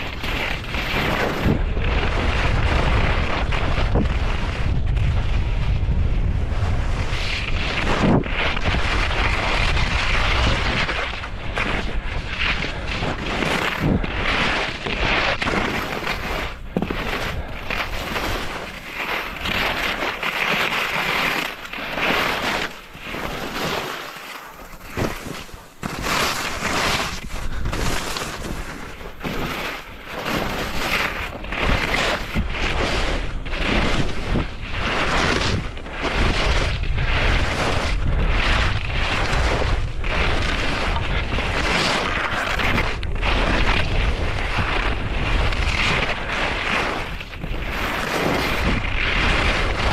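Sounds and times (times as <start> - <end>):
wind buffeting microphone: 0.0 - 20.0, 24.7 - 49.9
skis scraping over packed snow: 0.0 - 49.9.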